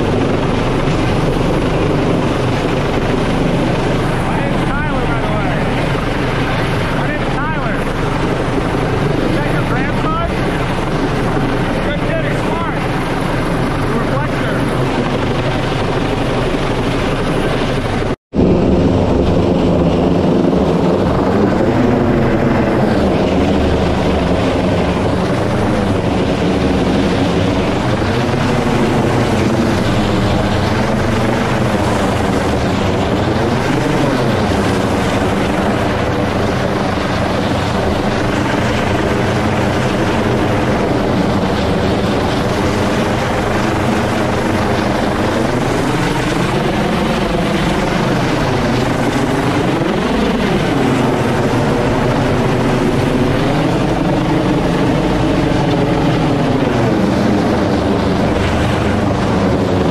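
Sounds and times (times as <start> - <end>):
helicopter rotor and engines: 0.0 - 59.9.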